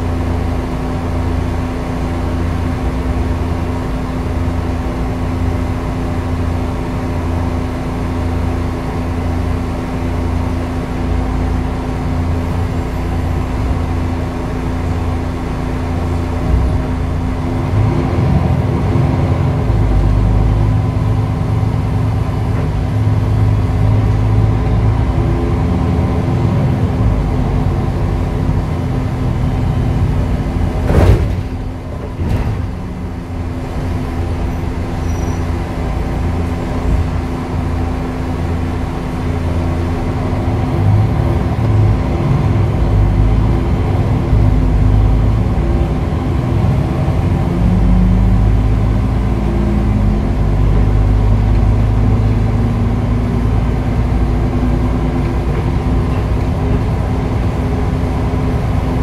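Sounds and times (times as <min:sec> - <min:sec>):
bus engine humming: 0:00.0 - 0:59.0.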